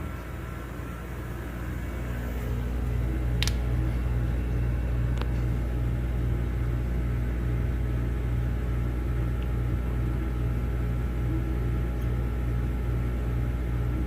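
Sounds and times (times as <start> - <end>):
air compressor humming: 0.0 - 14.0.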